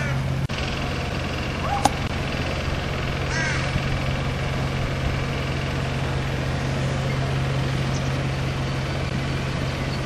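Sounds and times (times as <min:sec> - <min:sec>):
low mechanical drone: 0:00.0 - 0:10.0
outdoor background noise: 0:00.0 - 0:10.0.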